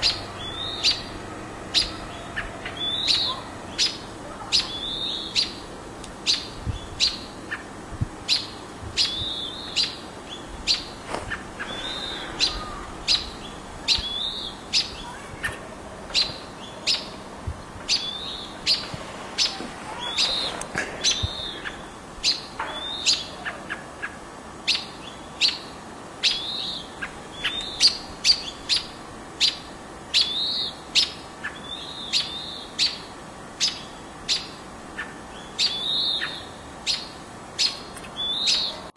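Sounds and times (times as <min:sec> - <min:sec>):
small birds alarm calls: 0:00.0 - 0:38.9.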